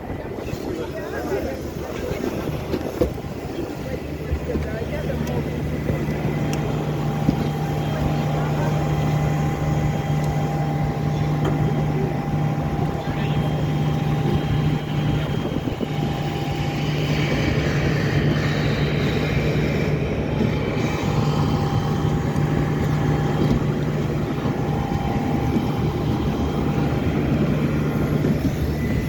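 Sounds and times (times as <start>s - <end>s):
airliner engines droning in cabin: 0.0s - 29.0s.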